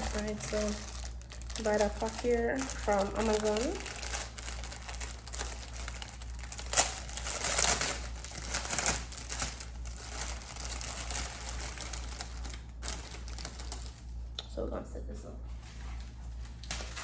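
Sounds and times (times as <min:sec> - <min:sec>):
packaging crinkling and rustling: 0:00.0 - 0:14.2, 0:15.6 - 0:17.0.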